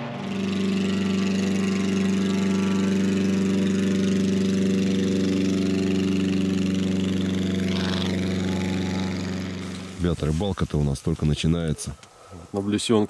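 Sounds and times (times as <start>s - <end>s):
airboat engine running: 0.0s - 10.9s.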